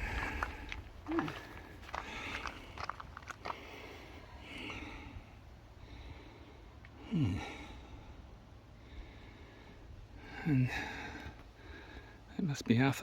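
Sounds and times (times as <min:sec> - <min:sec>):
person breathing: 0:00.0 - 0:12.3.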